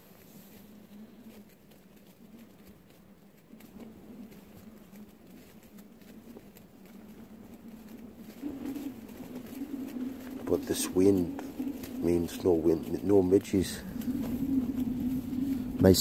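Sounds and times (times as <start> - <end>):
low steady hum: 0.0 - 16.0
tent fabric ticking in wind: 0.0 - 16.0.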